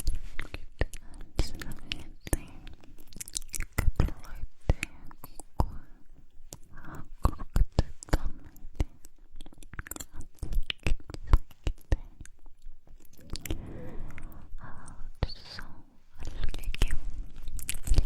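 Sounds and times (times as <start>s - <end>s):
breathy mouth sounds: 0.0s - 18.0s
lip smacks and tongue clicks: 0.0s - 18.0s.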